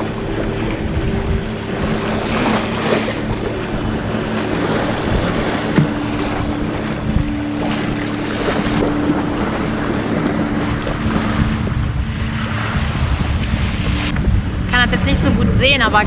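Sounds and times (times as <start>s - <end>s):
boat engine humming: 0.0s - 16.0s
water rushing along hull: 0.0s - 16.0s
wind buffeting microphone: 0.0s - 16.0s.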